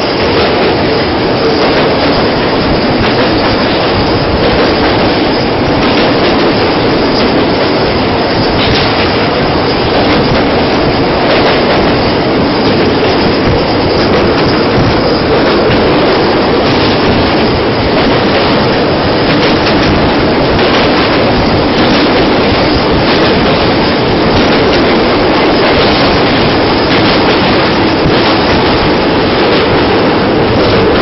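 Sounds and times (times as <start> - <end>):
irregular clatter: 0.0 - 31.0
train wheels rumbling on track: 0.0 - 31.0.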